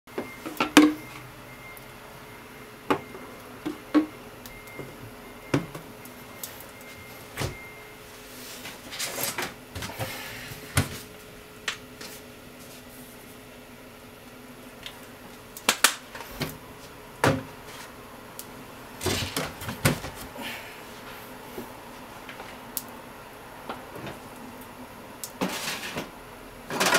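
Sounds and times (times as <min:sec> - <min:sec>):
steady low hum: 0:00.1 - 0:25.4.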